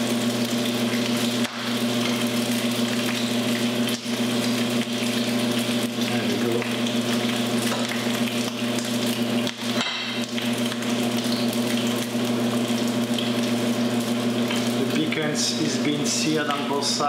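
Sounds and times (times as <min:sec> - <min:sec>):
bacon sizzling in a pan: 0:00.0 - 0:17.0.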